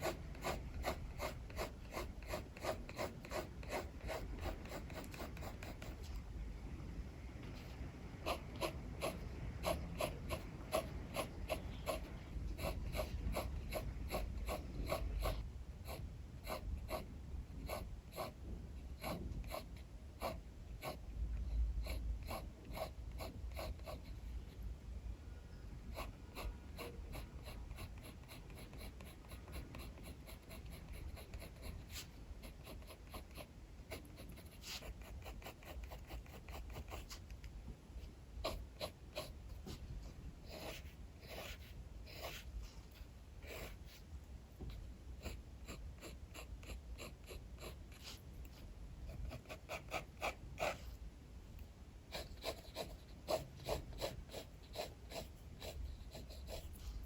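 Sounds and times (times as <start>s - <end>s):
pencil scratching on paper: 0.0s - 6.2s, 7.6s - 21.0s, 21.8s - 24.3s, 25.9s - 37.4s, 38.4s - 51.0s, 52.1s - 57.0s.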